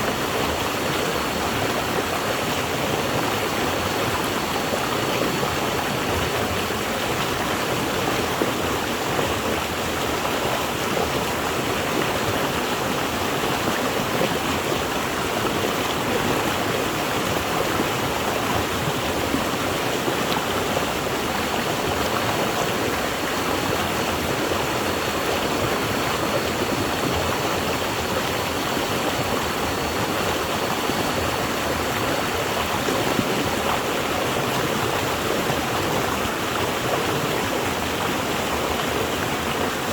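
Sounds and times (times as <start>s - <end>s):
water rushing in a stream: 0.0s - 39.9s.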